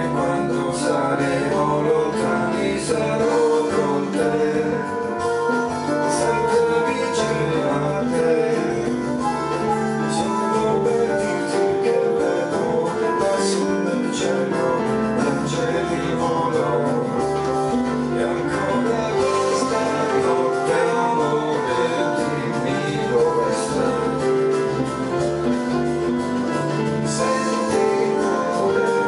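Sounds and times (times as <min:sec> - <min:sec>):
piano and keyboards playing: 0:00.0 - 0:29.0.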